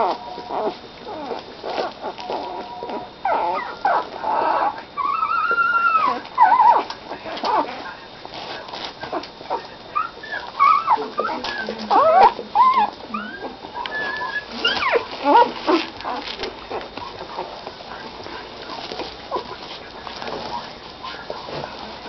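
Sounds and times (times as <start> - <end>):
puppies squeaking and whimpering: 0.0 - 22.0.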